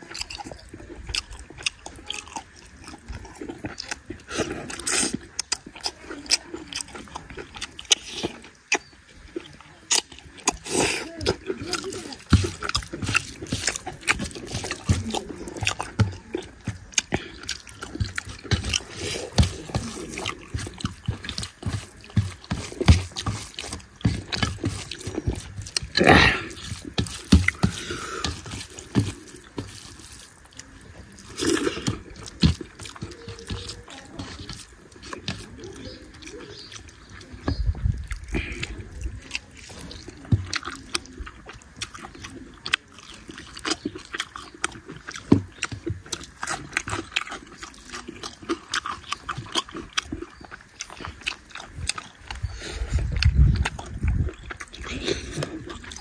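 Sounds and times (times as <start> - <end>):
fingers squishing rice: 0.0 - 56.0
lip smacking and chewing: 0.0 - 56.0.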